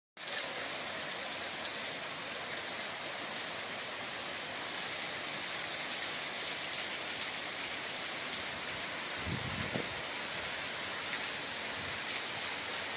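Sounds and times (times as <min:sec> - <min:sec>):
steady rain: 0:00.2 - 0:12.9.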